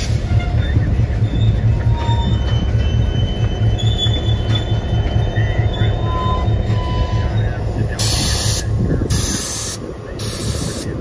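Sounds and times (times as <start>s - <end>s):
train wheels squealing on rail: 0.0s - 9.8s
diesel locomotive throb: 0.0s - 11.0s.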